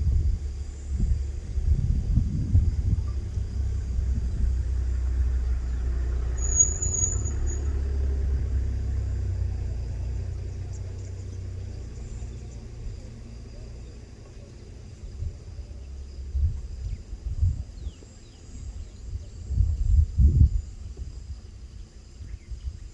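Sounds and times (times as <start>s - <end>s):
vehicle engine idling: 0.0s - 19.6s.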